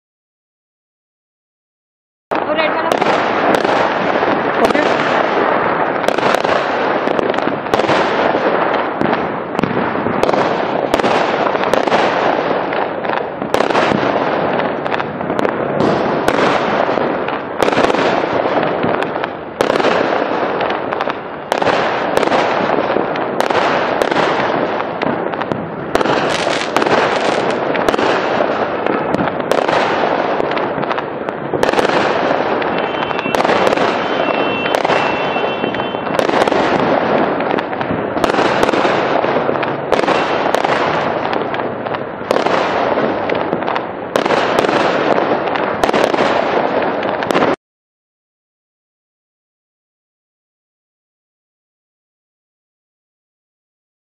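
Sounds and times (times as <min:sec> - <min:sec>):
din of explosions: 0:02.3 - 0:47.6
fireworks bangs: 0:02.3 - 0:47.6.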